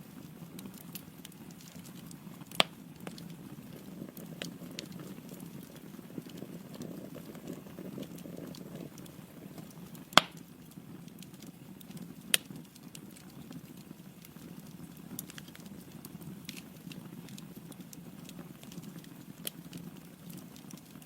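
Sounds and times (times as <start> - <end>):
fire burning with crackles: 0.0 - 21.0.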